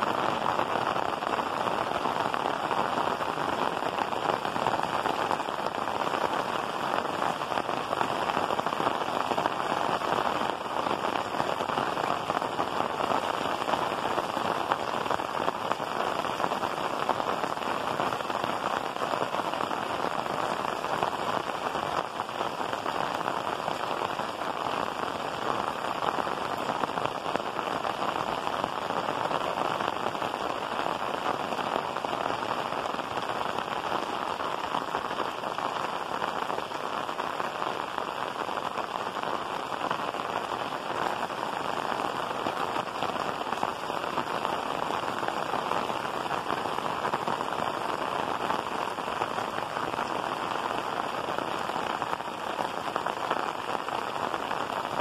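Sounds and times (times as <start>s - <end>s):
heavy rain on tile roof: 0.0s - 55.0s.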